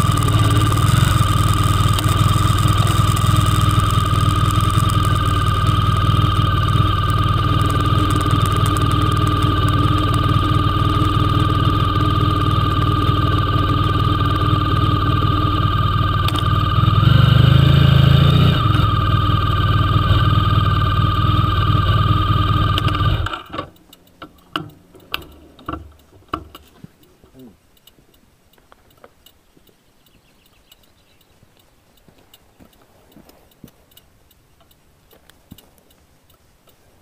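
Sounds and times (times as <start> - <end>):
faint clicks: 0.0 - 17.6, 18.6 - 37.0
motorcycle engine idling: 0.0 - 36.8.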